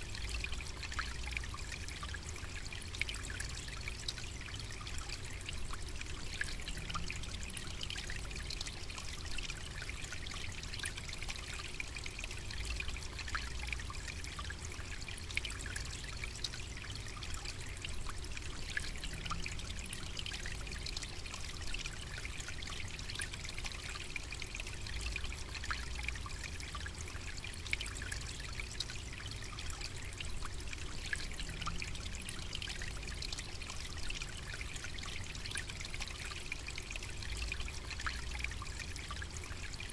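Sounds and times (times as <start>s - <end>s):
low constant rumble: 0.0s - 39.9s
trickle of running water: 0.0s - 39.9s.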